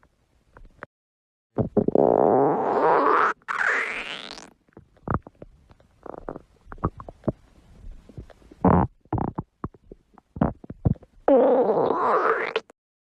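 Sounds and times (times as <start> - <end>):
stomach gurgling and growling: 1.6 - 12.8.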